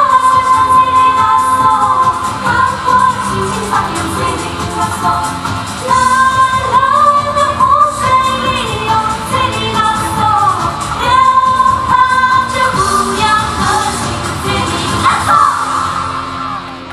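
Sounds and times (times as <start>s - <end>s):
pop song playing loudly: 0.0s - 16.9s.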